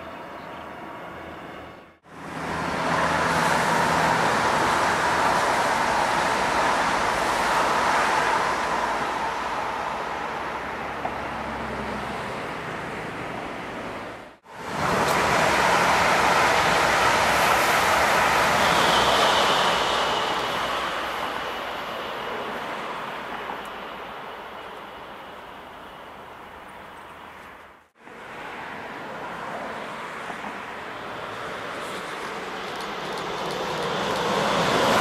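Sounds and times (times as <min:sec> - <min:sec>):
high-speed train passing: 0:00.0 - 0:35.0
regional train passing: 0:00.0 - 0:35.0.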